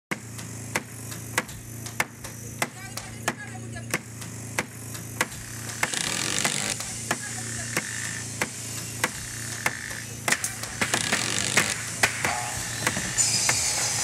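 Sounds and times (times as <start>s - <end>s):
steady hum: 0.1s - 14.0s.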